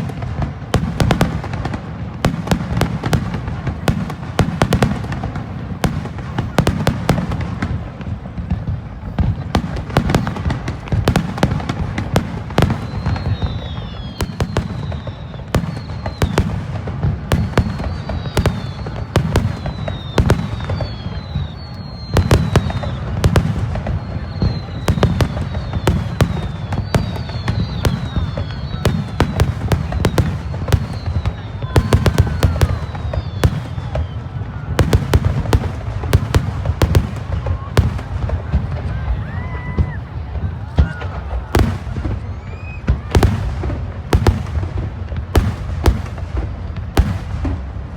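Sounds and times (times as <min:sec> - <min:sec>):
fireworks bangs and crackling: 0:00.0 - 0:47.9
fireworks falling whistles: 0:00.0 - 0:47.9.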